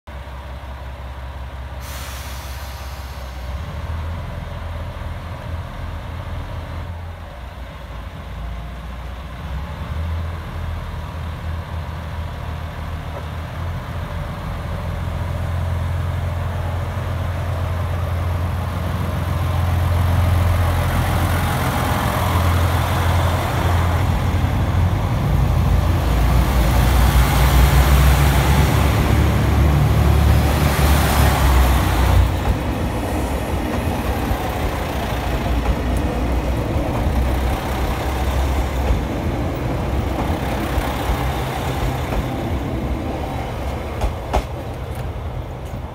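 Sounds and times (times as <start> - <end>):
train wheel and rail noise: 0.1 - 45.9.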